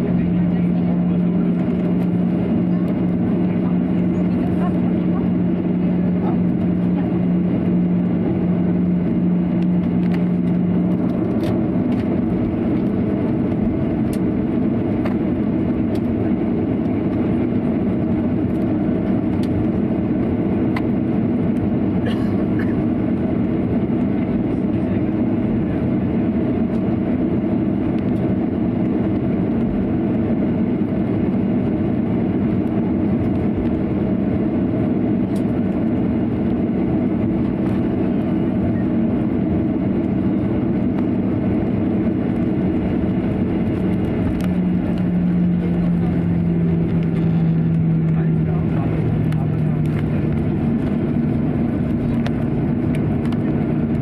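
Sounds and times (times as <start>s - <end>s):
airplane cabin engine rumble: 0.0s - 54.0s
steady low hum: 0.0s - 54.0s.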